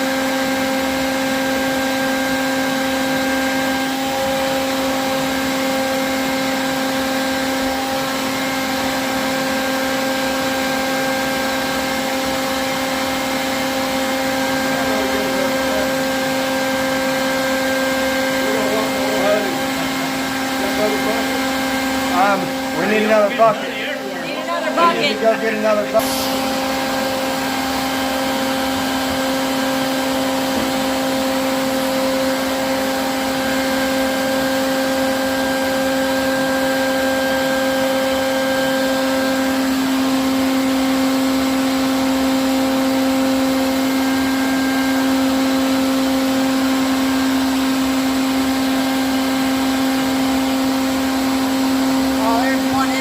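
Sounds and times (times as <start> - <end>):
vacuum motor humming: 0.0 - 53.0.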